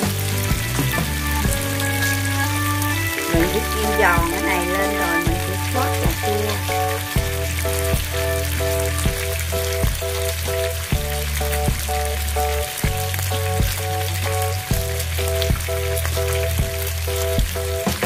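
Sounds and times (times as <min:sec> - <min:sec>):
background music with steady beat: 0:00.0 - 0:18.0.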